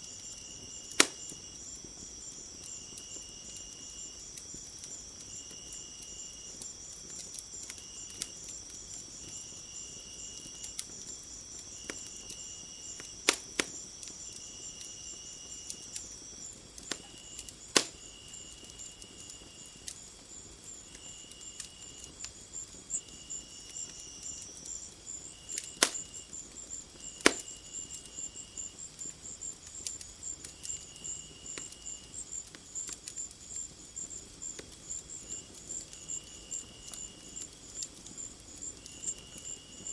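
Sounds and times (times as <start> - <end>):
fast pulsing insect chirp: 0.0 - 39.9
insects droning: 0.0 - 39.9
short insect trills: 0.0 - 39.9
wood fire popping: 0.0 - 39.9.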